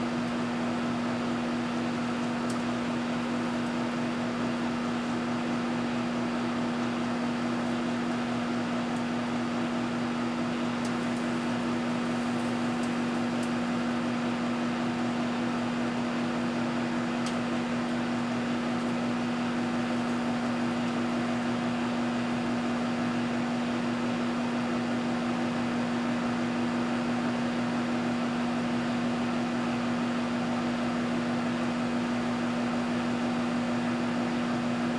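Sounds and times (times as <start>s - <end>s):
microwave oven humming: 0.0s - 34.9s.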